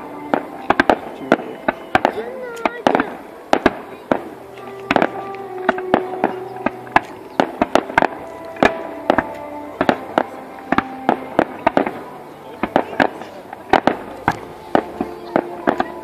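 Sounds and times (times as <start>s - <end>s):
fireworks bangs and pops: 0.3s - 12.0s, 12.6s - 16.0s.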